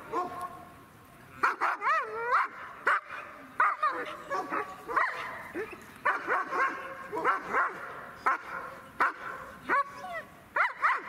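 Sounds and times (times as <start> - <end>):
dog barking: 0.1 - 0.5, 1.4 - 10.0, 10.6 - 11.0.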